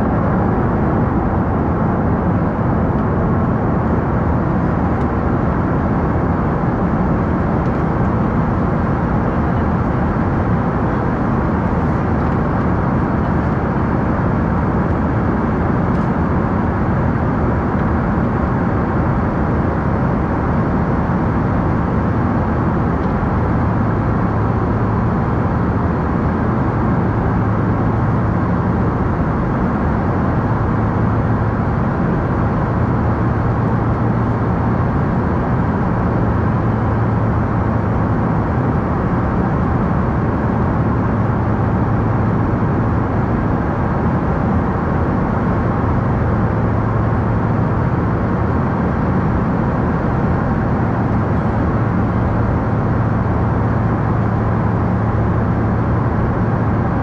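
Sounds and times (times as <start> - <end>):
jet engines in cabin: 0.0 - 57.0.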